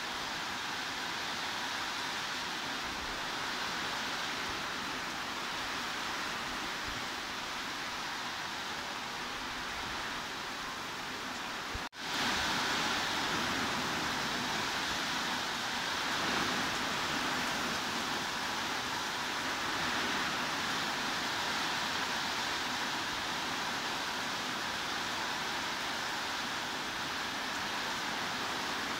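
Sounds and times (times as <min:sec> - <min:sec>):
heavy rain hissing: 0:00.0 - 0:28.9.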